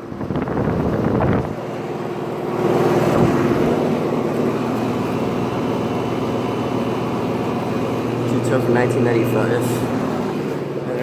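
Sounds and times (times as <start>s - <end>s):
compressor hum: 0.0s - 11.0s
condenser fan rushing: 0.0s - 11.0s.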